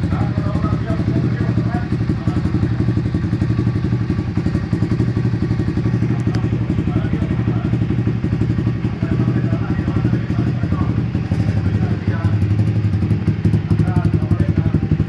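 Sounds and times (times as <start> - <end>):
pit bike engine running: 0.0 - 15.0.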